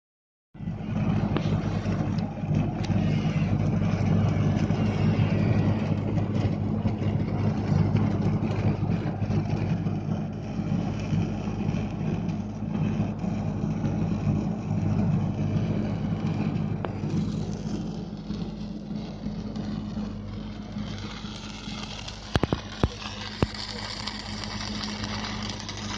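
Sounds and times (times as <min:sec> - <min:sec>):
low electrical hum: 0:00.6 - 0:25.9
welding arc crackling: 0:00.6 - 0:25.9.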